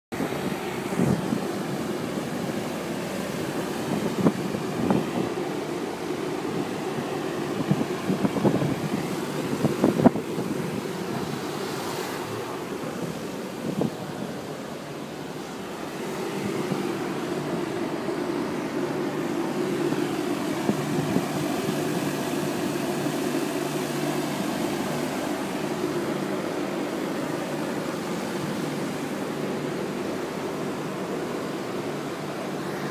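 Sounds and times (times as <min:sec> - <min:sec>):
low rumble of traffic and ships: 0:00.1 - 0:32.9
wind buffeting microphone: 0:00.2 - 0:15.2, 0:15.8 - 0:29.2.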